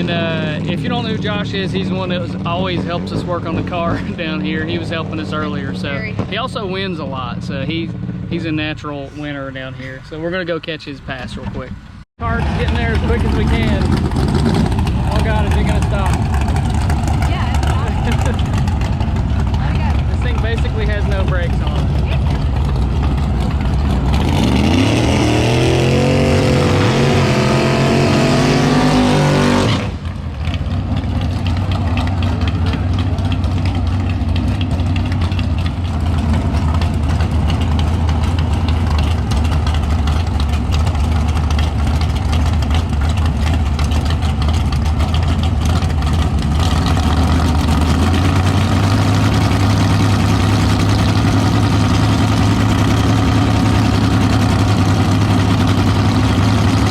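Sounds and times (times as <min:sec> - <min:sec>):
drag race car accelerating: 0:00.0 - 0:10.5, 0:12.2 - 0:56.9
low engine drone: 0:00.0 - 0:56.9.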